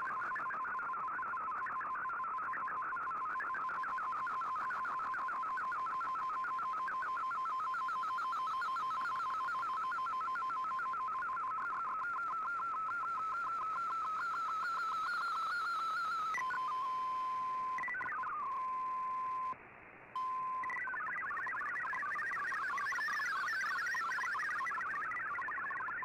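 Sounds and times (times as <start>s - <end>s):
rapid hopping data tones: 0.0s - 19.6s, 20.2s - 26.0s
wavering data signal tone: 0.0s - 19.6s, 20.2s - 26.0s.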